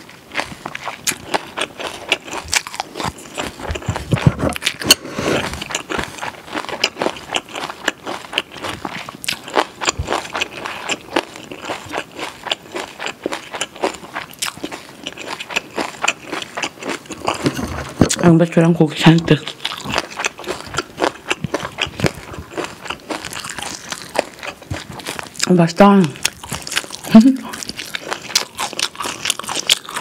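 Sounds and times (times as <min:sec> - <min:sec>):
wet crunchy chewing: 0:00.0 - 0:30.0.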